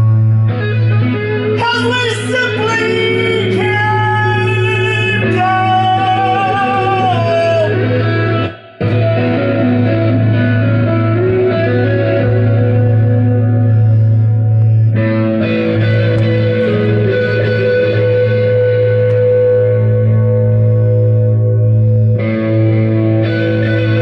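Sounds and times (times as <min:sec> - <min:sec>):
gliding guitar melody: 0:00.0 - 0:24.0
steady low held tone: 0:02.2 - 0:24.0.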